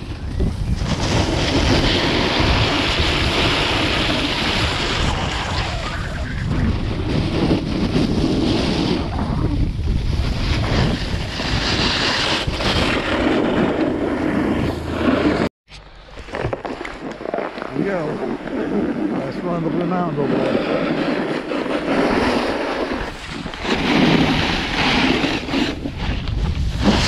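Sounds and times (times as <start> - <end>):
wind buffeting microphone: 0.0 - 15.5, 16.9 - 27.0
snowboard sliding over snow: 0.0 - 27.0.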